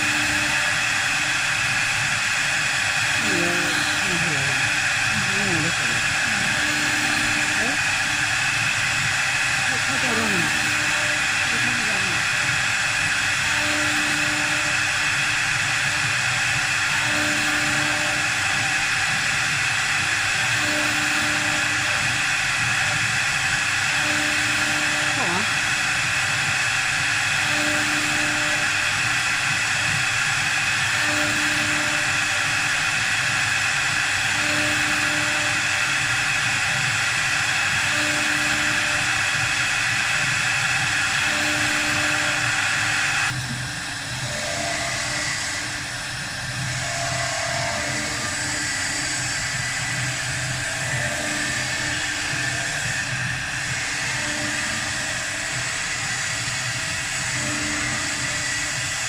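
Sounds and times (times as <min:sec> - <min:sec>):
wood lathe cutting: 0:00.0 - 0:59.0.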